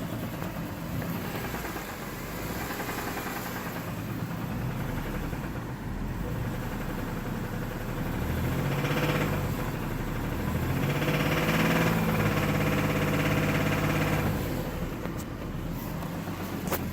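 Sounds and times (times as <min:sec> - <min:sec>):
car engine idling and revving: 0:00.0 - 0:16.9
engine knocking: 0:00.0 - 0:16.9.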